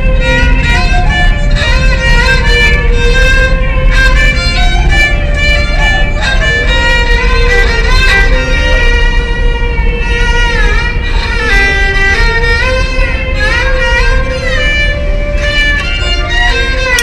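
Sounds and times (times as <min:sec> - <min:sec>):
bowed string melody: 0:00.0 - 0:17.0
steady low rumble: 0:00.0 - 0:17.0.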